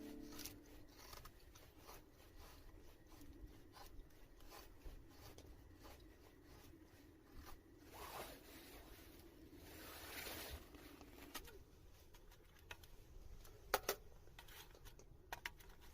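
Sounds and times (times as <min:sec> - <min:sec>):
soft rustle: 0:00.0 - 0:15.9.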